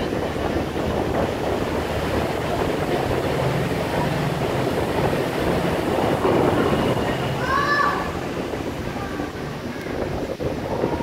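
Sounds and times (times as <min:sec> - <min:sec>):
boat engine droning: 0:00.0 - 0:11.0
even rushing noise: 0:00.0 - 0:11.0.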